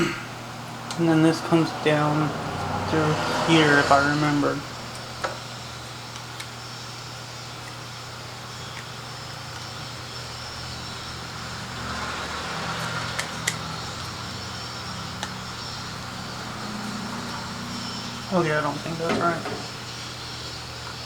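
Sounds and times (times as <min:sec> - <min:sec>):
machinery hum and hiss: 0:00.0 - 0:21.0.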